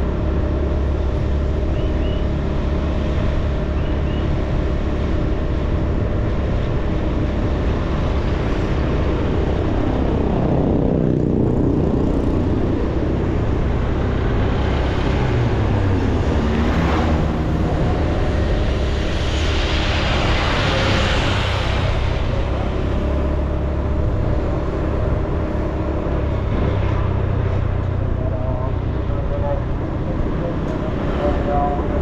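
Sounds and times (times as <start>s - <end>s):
road and wind noise: 0.0s - 32.0s
vehicle engine driving: 0.0s - 32.0s.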